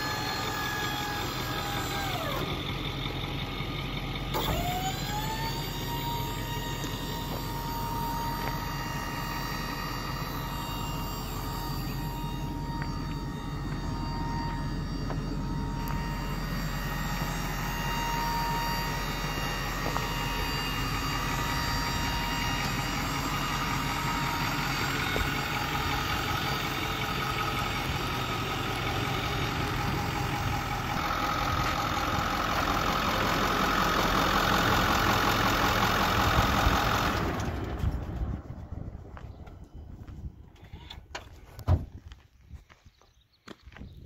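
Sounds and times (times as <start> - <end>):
diesel engine idling: 0.0 - 42.2
steady whine: 0.0 - 42.2.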